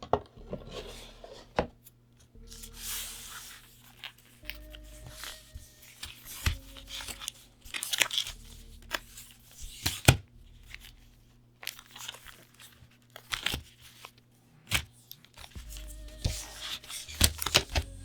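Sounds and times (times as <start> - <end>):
card packaging crinkling and tearing: 2.9 - 18.0.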